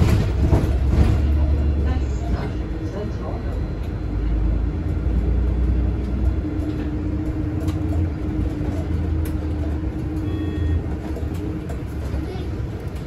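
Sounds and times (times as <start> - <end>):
bus rumble: 0.0 - 13.0.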